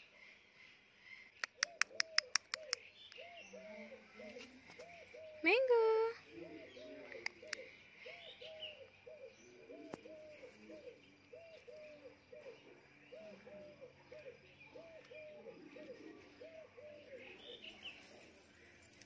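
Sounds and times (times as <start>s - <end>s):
dove cooing: 1.6s - 5.5s, 6.2s - 19.0s.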